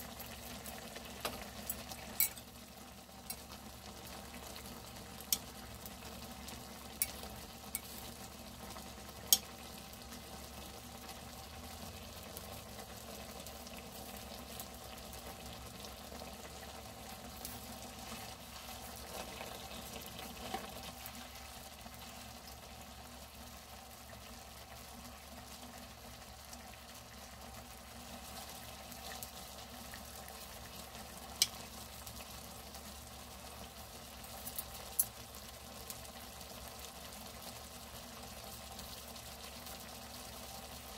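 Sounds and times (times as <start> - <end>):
fish simmering in pan: 0.0 - 40.9.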